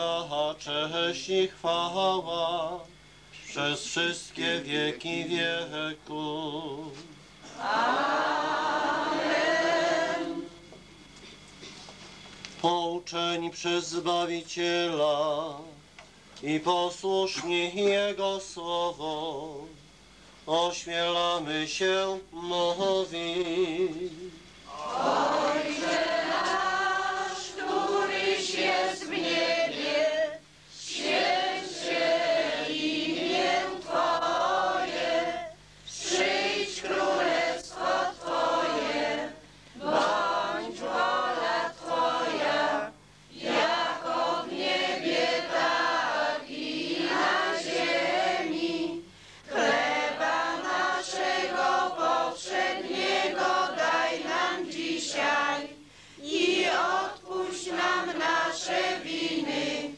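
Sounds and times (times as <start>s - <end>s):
crowd singing a hymn: 0.0s - 2.3s, 3.4s - 11.5s, 20.5s - 59.9s.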